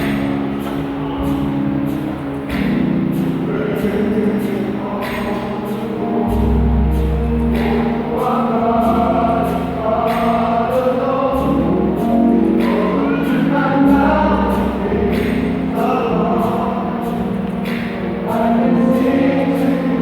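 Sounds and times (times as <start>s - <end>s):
sustained bass notes: 0.0s - 20.0s
vocal group singing in harmony: 0.0s - 20.0s.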